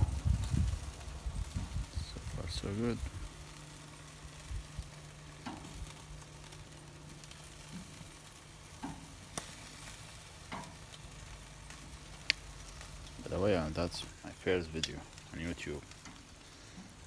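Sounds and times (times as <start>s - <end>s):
chicken sizzling on a grill: 0.0s - 17.0s.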